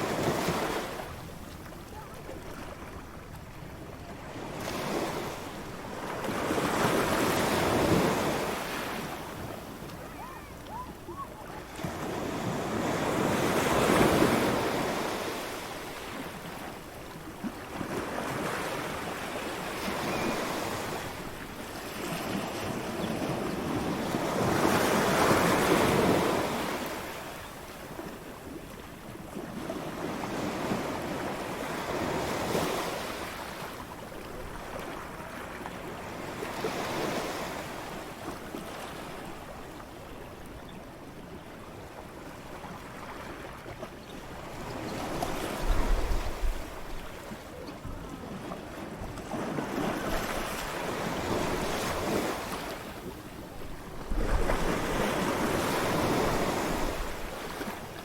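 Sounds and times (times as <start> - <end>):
waves breaking on beach: 0.0 - 39.6, 41.6 - 58.0.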